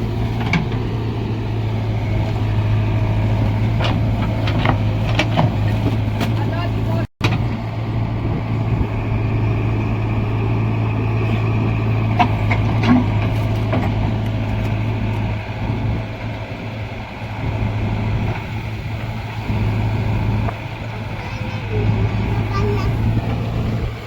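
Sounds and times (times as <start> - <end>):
diesel engine humming: 0.0 - 24.0.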